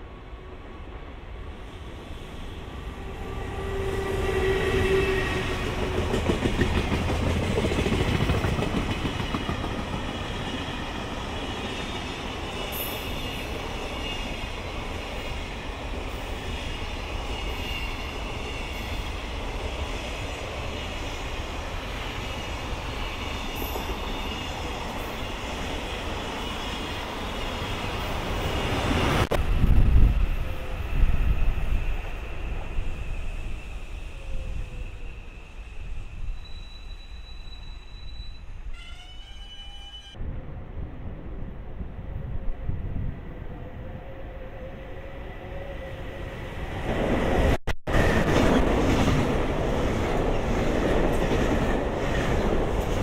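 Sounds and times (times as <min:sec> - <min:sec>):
electric locomotive passing: 0:00.0 - 0:53.0.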